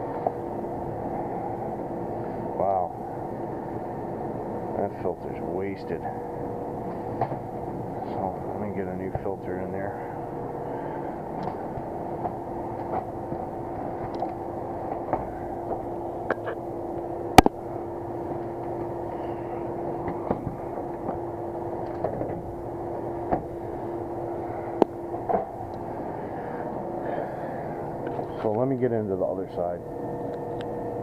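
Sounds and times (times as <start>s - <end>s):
air-handling equipment humming: 0.0s - 31.0s.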